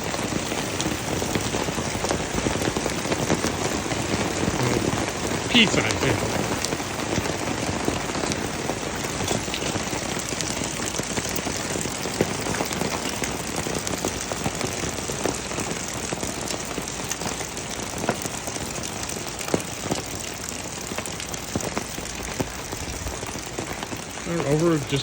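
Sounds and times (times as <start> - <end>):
hail falling hard: 0.0 - 25.0.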